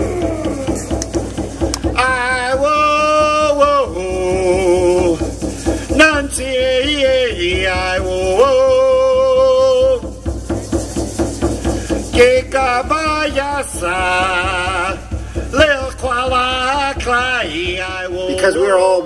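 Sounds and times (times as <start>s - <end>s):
man singing long sliding notes: 0.0s - 1.1s, 1.7s - 10.2s, 12.0s - 19.0s
steady drum beat: 0.0s - 19.0s.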